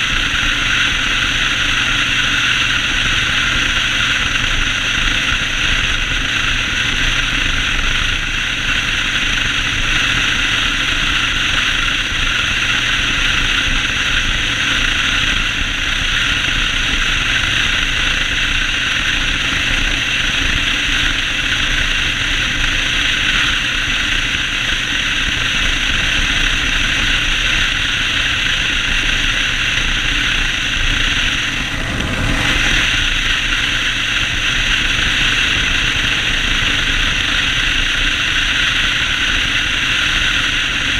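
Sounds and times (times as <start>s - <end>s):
motorcycle engine rumble: 0.0s - 40.9s
wind and road noise: 0.0s - 40.9s.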